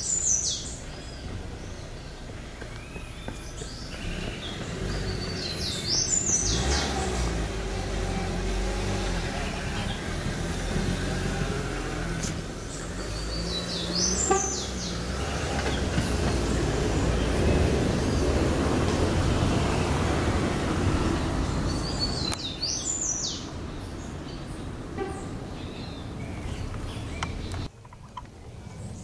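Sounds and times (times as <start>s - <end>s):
bird chirping: 0.0s - 29.0s
road traffic rumble: 0.0s - 29.0s.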